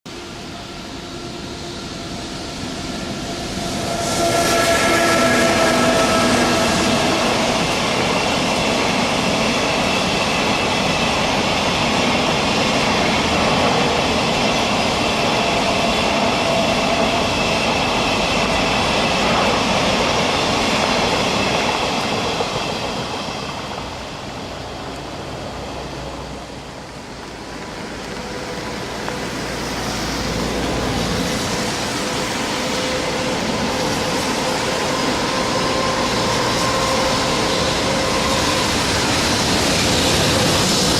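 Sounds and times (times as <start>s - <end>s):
locomotive whine: 0.1s - 40.9s.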